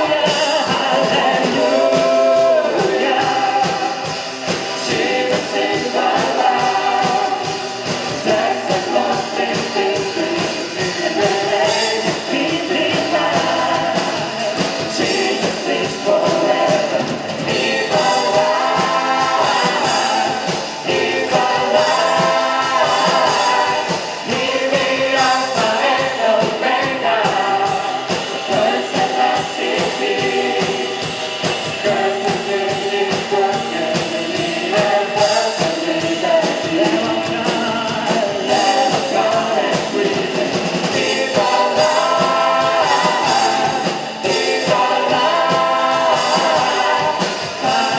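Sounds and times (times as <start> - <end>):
group singing: 0.0 - 47.9
praise band playing: 0.0 - 47.9
steady drum beat: 0.0 - 47.9.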